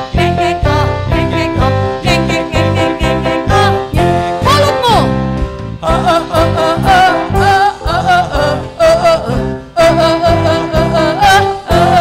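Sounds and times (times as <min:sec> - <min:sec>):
band playing: 0:00.0 - 0:12.0
voices singing: 0:00.2 - 0:05.1, 0:05.8 - 0:12.0.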